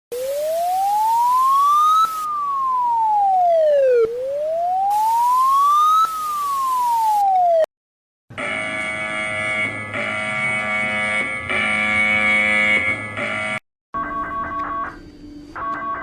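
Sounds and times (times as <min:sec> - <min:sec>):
emergency siren wailing: 0:00.1 - 0:07.7, 0:08.4 - 0:15.0.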